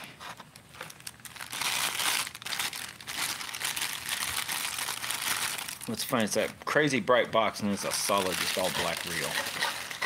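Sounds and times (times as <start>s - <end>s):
packaging crinkling and rustling: 0.2s - 6.8s, 7.8s - 10.0s.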